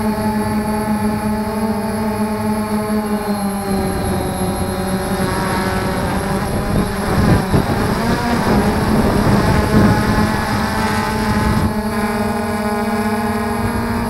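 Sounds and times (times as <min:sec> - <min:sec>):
drone motors buzzing: 0:00.0 - 0:14.0.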